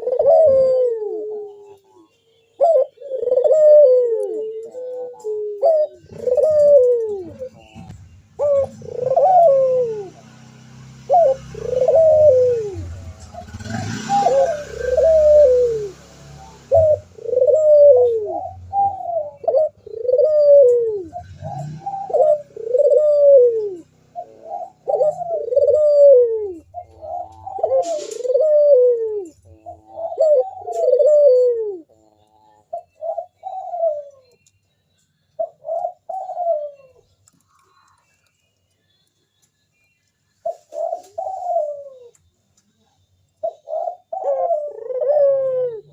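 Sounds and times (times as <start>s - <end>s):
dove cooing: 0.0s - 34.4s, 35.4s - 38.2s, 40.4s - 45.9s.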